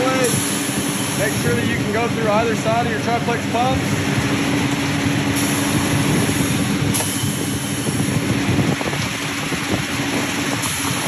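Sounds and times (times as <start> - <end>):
constant hum: 0.0 - 11.0
pump truck engine running: 0.0 - 11.0.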